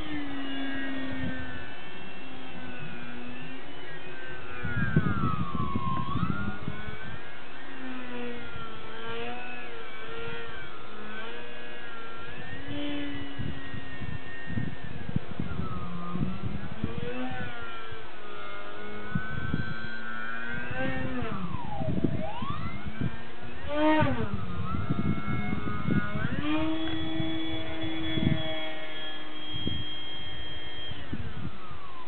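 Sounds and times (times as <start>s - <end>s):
model airplane motor and propeller: 0.0s - 32.0s
wind buffeting microphone: 0.0s - 32.0s.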